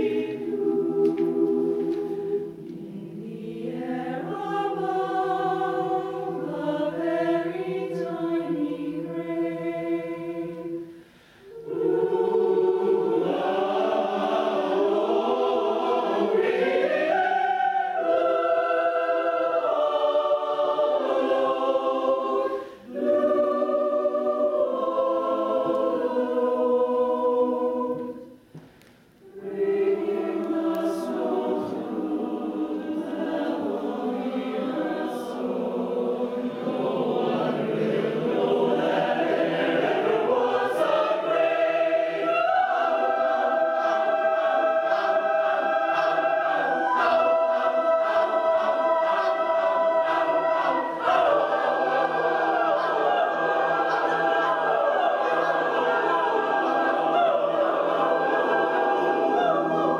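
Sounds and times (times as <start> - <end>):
mixed choir singing: 0.0 - 28.5, 29.2 - 59.9.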